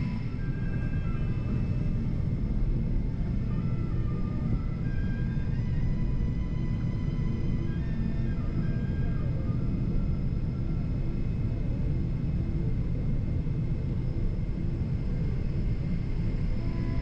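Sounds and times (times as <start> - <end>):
airplane cabin low rumble: 0.0 - 17.0.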